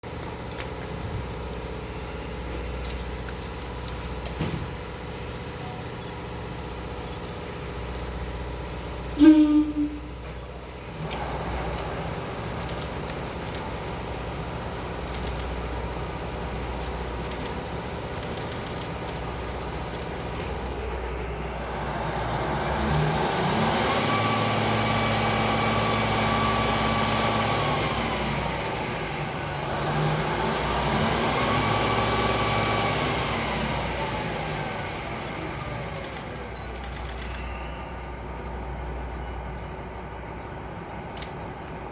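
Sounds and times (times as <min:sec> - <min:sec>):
diesel railcar engine idling and revving: 0:00.0 - 0:41.9.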